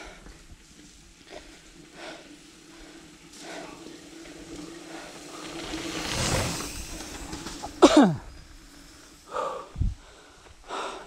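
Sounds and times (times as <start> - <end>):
bike tyres crunching over gravel: 0.0 - 9.3.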